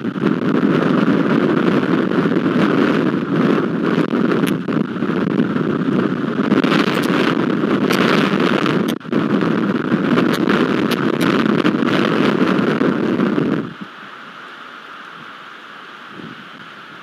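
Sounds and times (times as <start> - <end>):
wind and rain on microphone: 0.0 - 17.0.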